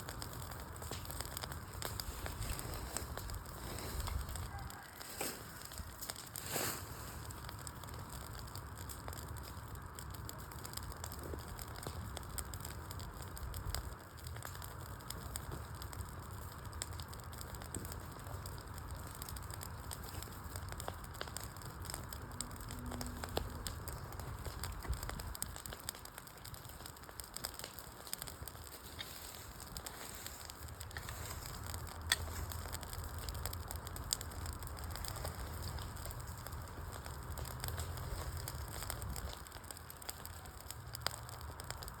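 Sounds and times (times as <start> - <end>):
log popping: 0.0 - 42.0
wood fire crackling: 0.0 - 42.0.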